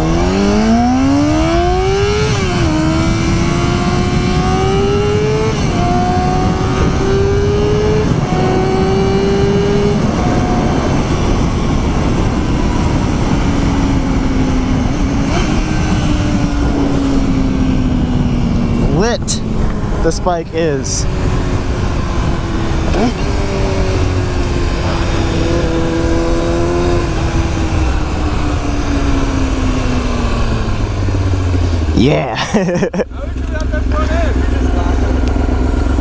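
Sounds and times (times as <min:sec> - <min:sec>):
heavy wind noise: 0:00.0 - 0:36.0
motorcycle engine accelerating: 0:00.0 - 0:36.0.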